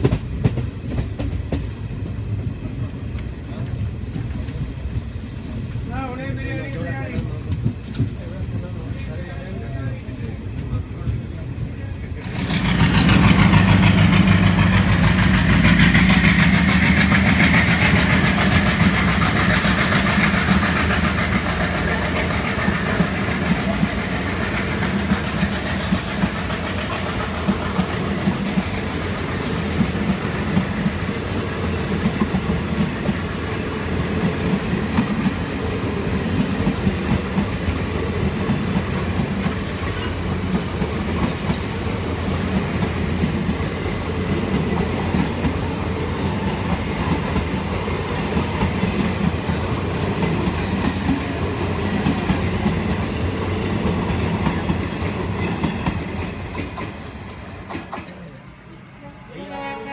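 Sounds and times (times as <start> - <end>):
train wheels clickety-clack: 0.0 - 58.8
diesel locomotive engine: 0.0 - 59.9.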